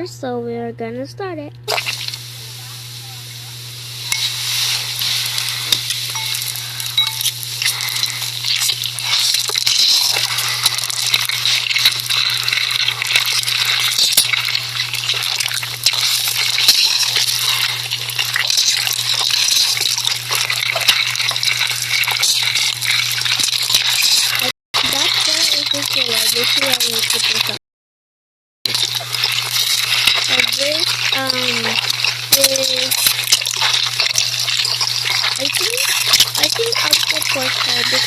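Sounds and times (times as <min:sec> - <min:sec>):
steady low hum: 0:00.0 - 0:27.6, 0:28.7 - 0:38.0
liquid sizzling in hot pan: 0:01.7 - 0:27.6, 0:28.7 - 0:38.0.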